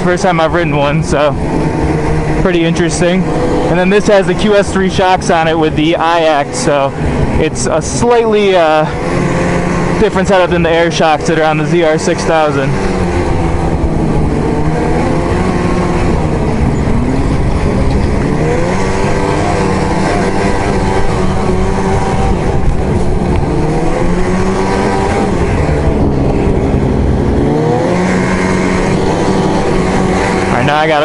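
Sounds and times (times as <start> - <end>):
snowmobile engine under throttle: 0.0 - 31.0.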